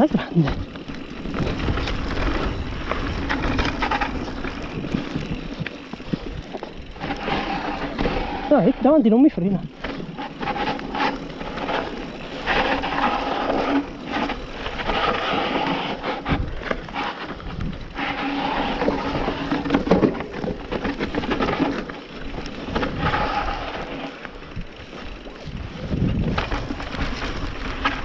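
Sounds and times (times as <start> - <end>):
bike knocks and rattles: 0.0 - 28.0
bike tyres grinding over dirt: 0.0 - 28.0.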